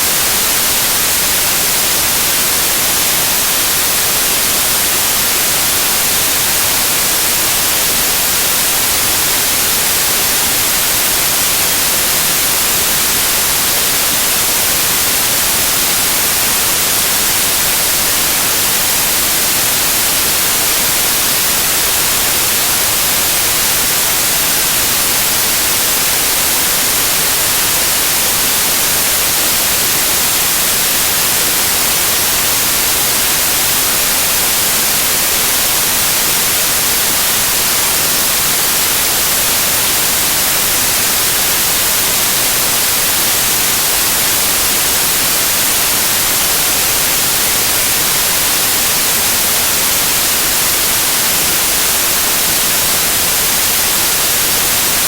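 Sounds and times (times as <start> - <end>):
loud white noise hiss: 0.0 - 55.0.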